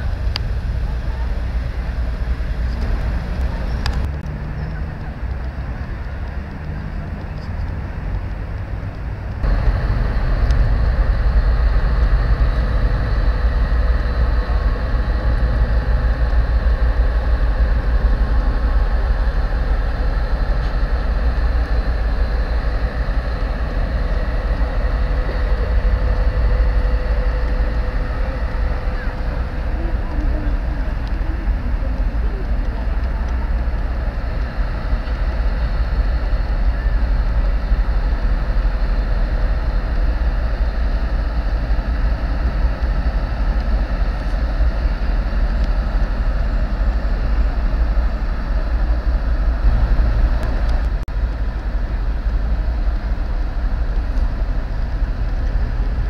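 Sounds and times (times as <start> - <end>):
deep rumble: 0.0 - 56.0
massed boat sirens droning: 0.0 - 56.0.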